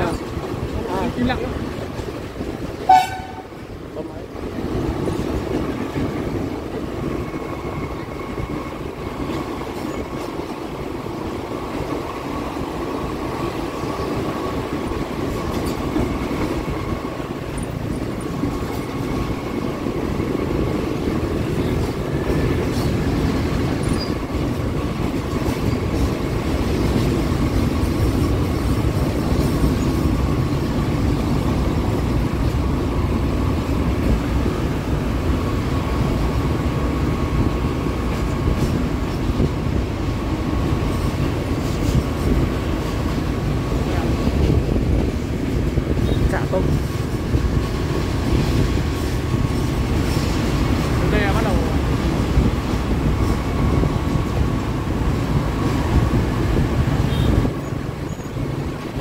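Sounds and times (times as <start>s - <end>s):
locomotive engine and rolling rumble: 0.0s - 59.0s.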